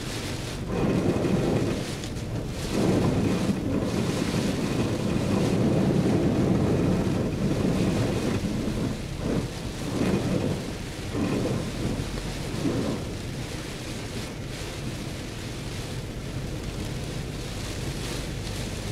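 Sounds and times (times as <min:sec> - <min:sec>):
heavy rain on a car: 0:00.0 - 0:18.9.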